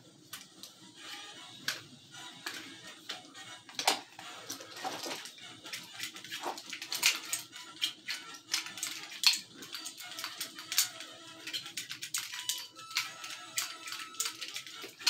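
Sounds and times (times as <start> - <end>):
toy revolvers clicking and rattling: 0.2 - 15.0.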